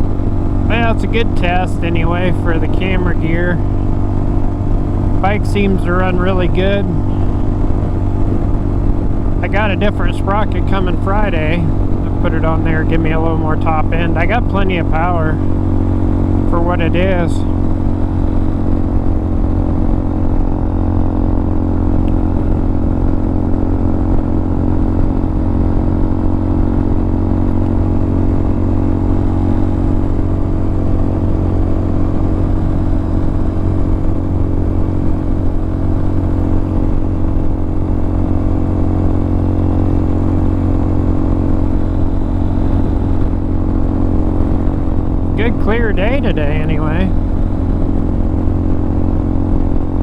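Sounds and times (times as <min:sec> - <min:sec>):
motorcycle engine cruising: 0:00.0 - 0:50.0.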